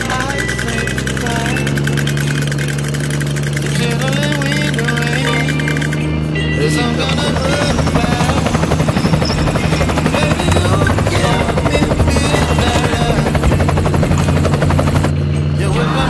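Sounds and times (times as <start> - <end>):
toy helicopters whirring: 0.0 - 16.0.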